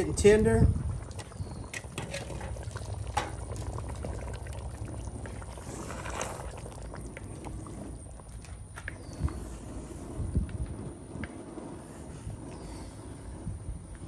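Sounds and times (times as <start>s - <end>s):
low steady rumble: 0.0s - 14.0s
sauce bubbling in a pot: 0.0s - 14.0s.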